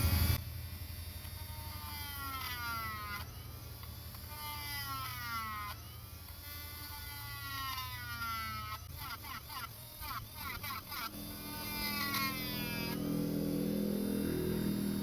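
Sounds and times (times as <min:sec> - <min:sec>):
rotary tool whine: 0:00.0 - 0:15.0
steady low hum: 0:00.0 - 0:15.0.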